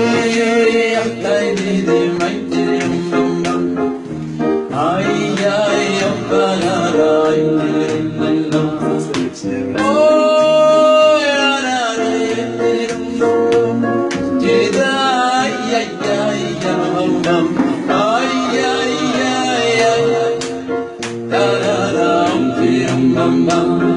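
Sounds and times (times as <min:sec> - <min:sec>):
man singing into a microphone: 0:00.0 - 0:04.1, 0:04.7 - 0:23.9
instrumental accompaniment: 0:00.0 - 0:23.9.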